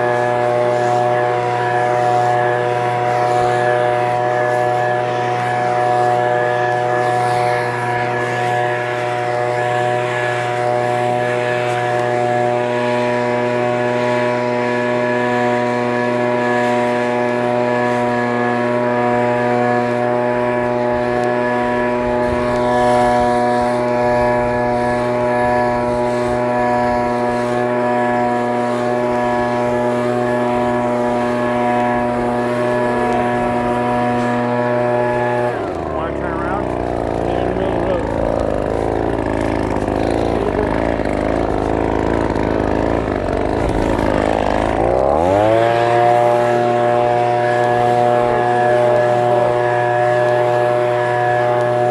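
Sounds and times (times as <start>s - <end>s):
leaf blower engine running: 0.0s - 51.9s.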